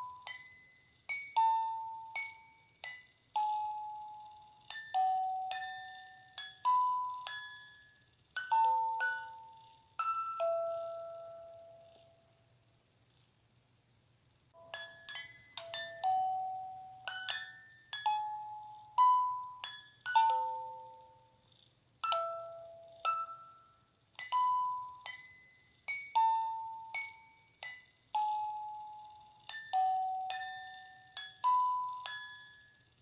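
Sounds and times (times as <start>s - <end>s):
bell-like lullaby melody: 0.0s - 12.3s, 14.6s - 21.4s, 22.0s - 33.0s.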